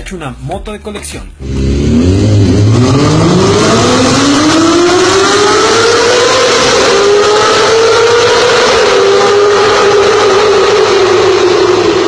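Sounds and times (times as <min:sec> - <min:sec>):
motorcycle engine accelerating: 0:01.4 - 0:12.0.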